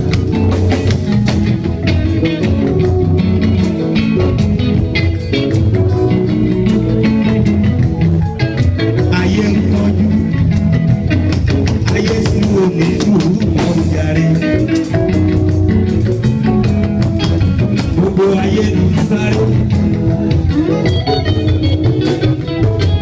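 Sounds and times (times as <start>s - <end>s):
bass guitar: 0.0s - 23.0s
drums: 0.0s - 23.0s
electric guitar: 0.0s - 23.0s.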